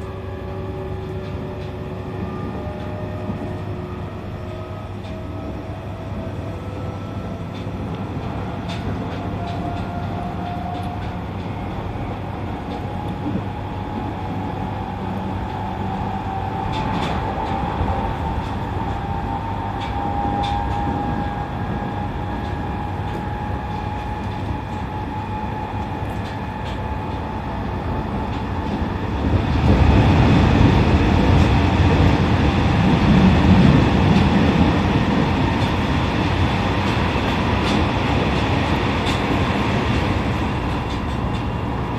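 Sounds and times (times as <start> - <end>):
train wheel-on-rail rumble: 0.0 - 41.9.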